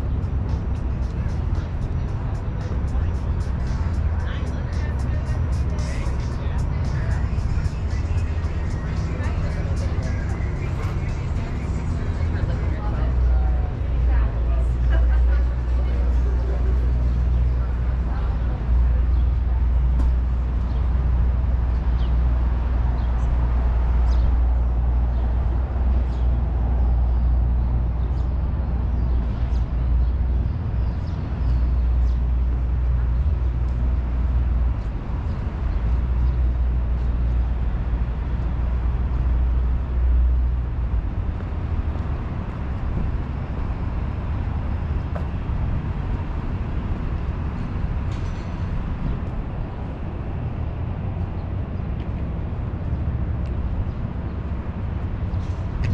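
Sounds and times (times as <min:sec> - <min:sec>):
traffic rumble: 0:00.0 - 0:55.9.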